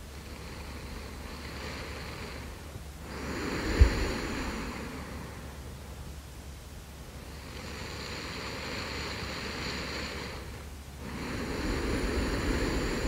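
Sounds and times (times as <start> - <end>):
person breathing in deep sleep: 0.2 - 5.6, 7.2 - 13.0.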